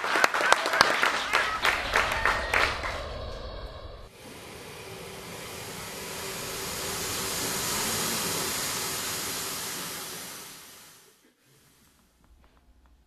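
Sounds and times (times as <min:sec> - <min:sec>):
steady rushing hiss: 0:00.6 - 0:13.0.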